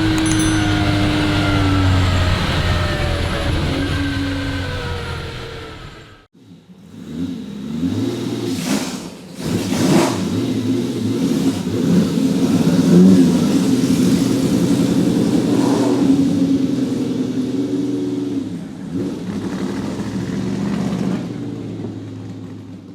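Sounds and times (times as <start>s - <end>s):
car engine accelerating: 0.0s - 22.9s.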